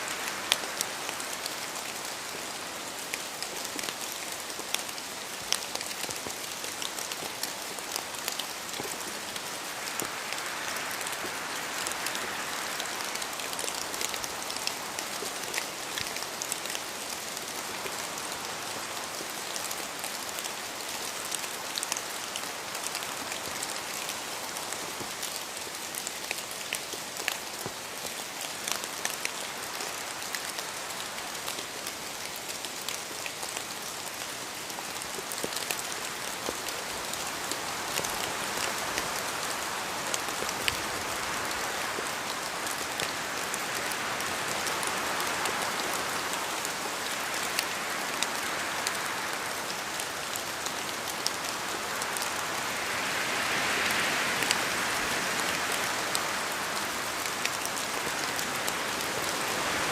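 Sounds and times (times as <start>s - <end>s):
steady rain in forest: 0.0s - 59.9s
wind gusts through trees: 0.0s - 59.9s.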